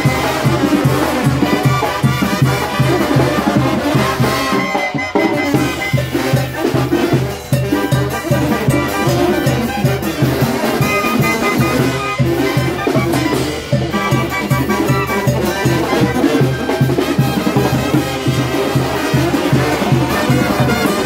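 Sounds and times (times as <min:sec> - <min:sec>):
brass band playing: 0:00.0 - 0:21.0
clarinets playing melody: 0:00.0 - 0:21.0.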